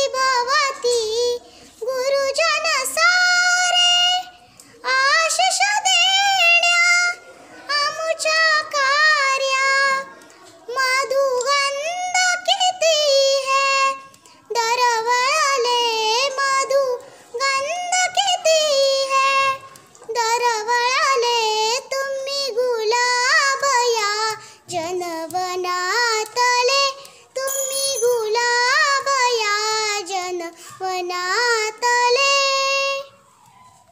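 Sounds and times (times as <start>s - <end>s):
girl singing unaccompanied: 0.0s - 33.9s.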